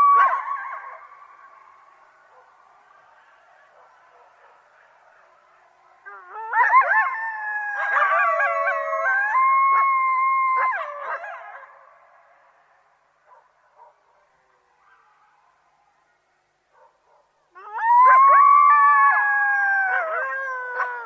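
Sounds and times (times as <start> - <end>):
coyotes howling and yipping: 0.0 - 16.2, 16.8 - 21.0.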